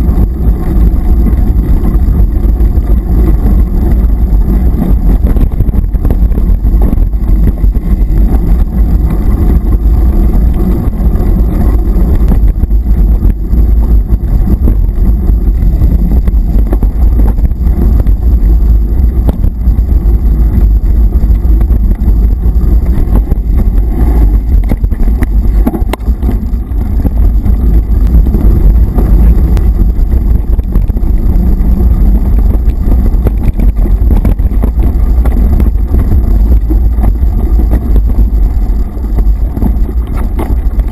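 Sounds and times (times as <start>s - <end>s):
bike knocks and rattles: 0.0s - 40.9s
wind rumble on microphone: 0.0s - 40.9s.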